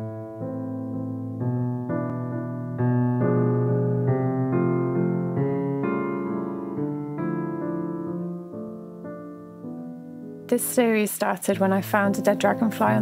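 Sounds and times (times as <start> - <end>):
slow soft piano melody: 0.0 - 13.0.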